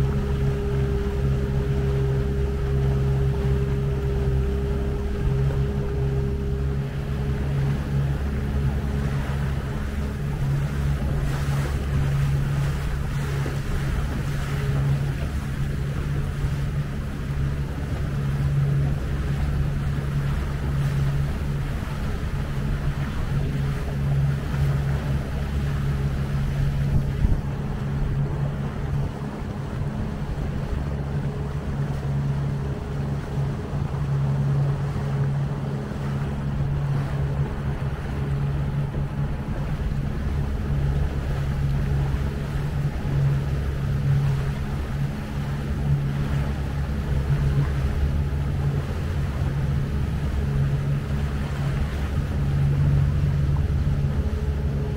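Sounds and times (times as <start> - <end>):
outboard motor humming: 0.0 - 54.9
water and wind rushing: 0.0 - 54.9.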